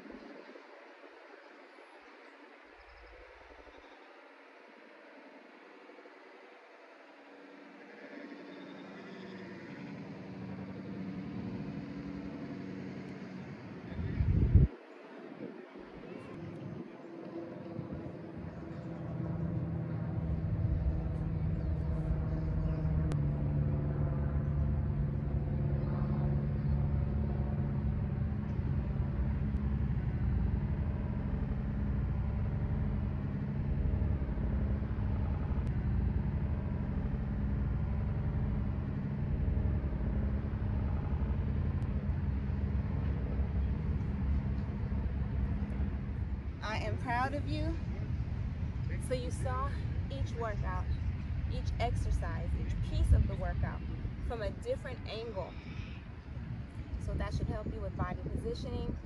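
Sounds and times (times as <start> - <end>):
engine-like low rumble: 0.0 - 59.0.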